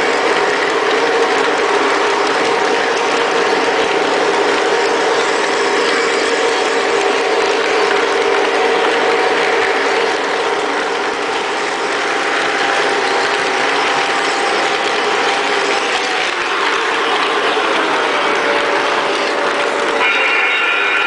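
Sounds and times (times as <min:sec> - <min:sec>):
model train wheels clattering: 0:00.0 - 0:21.0.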